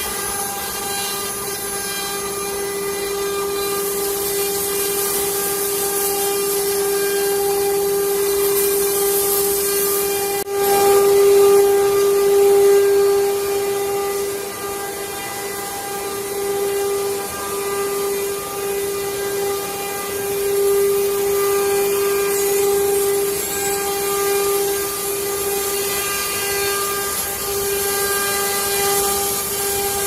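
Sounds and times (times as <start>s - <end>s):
hiss of wood cutting: 0.0s - 30.0s
router spindle whine: 0.0s - 30.0s.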